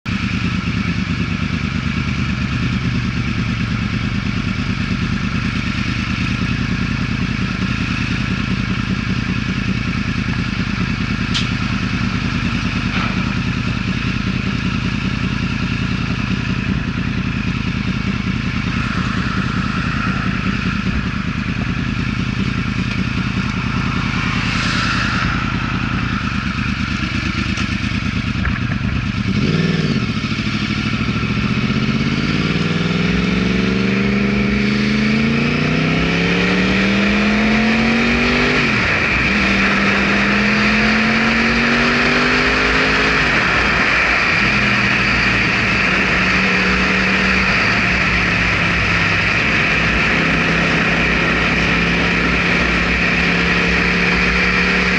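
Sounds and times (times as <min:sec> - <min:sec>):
motorcycle engine rumbling: 0:00.1 - 0:54.9.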